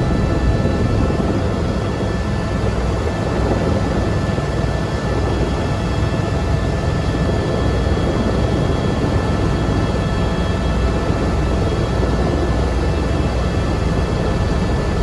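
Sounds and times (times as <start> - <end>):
helicopter turbine and rotor noise: 0.0 - 15.0.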